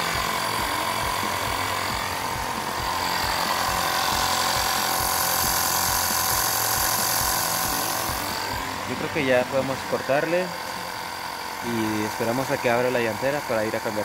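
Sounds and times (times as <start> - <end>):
tyre inflator compressor running: 0.0 - 14.0.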